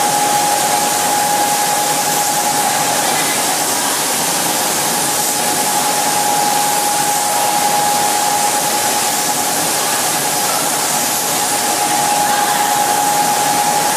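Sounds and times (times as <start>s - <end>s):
mid-pitched machine whine: 0.0s - 13.9s.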